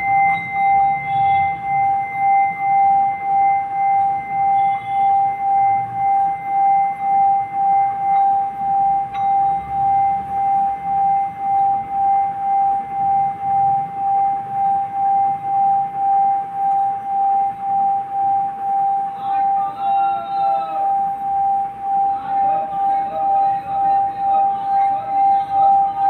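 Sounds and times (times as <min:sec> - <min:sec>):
higher shifting tones: 0:00.0 - 0:26.0
singing bowl ringing: 0:00.0 - 0:26.0.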